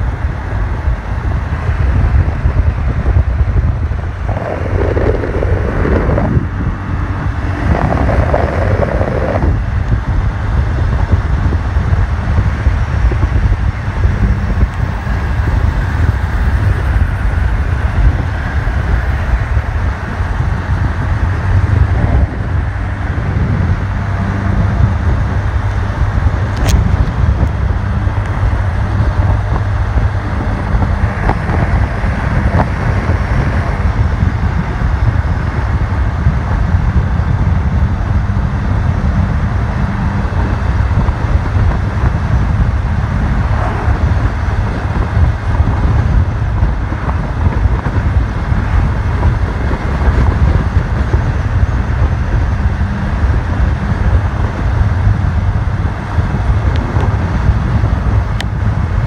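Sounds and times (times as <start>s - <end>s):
wind noise on microphone: 0.0s - 59.0s
scooter engine running: 4.6s - 59.0s.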